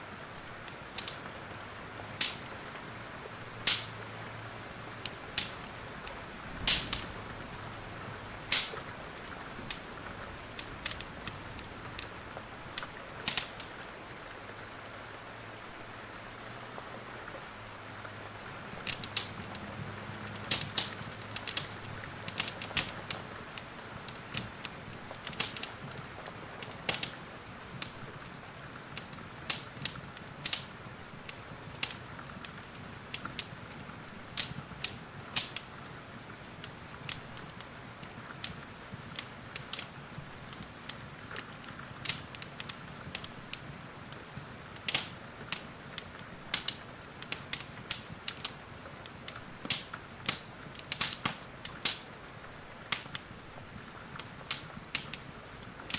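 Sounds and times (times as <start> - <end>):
steady rain falling: 0.0 - 55.9
wood fire crackling and popping: 0.2 - 14.0, 16.8 - 55.9.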